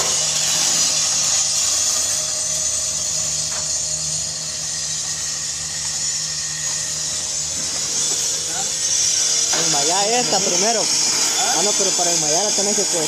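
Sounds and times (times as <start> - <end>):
machine hiss and hum: 0.0 - 13.0.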